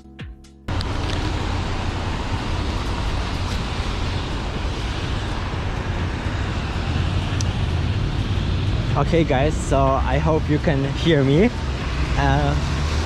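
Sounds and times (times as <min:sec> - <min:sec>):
city traffic rumble and hiss: 0:00.7 - 0:13.0.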